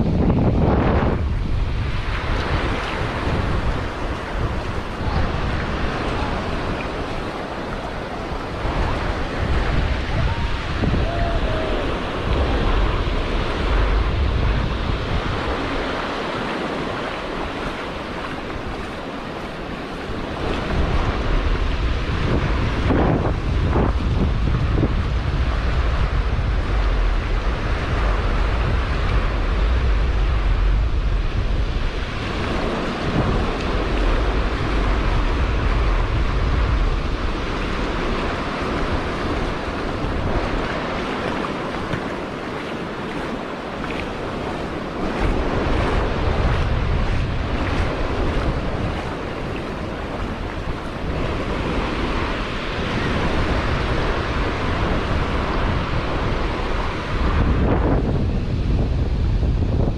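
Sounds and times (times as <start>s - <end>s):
ocean surf breaking: 0.0s - 59.9s
wind buffeting microphone: 0.0s - 59.9s.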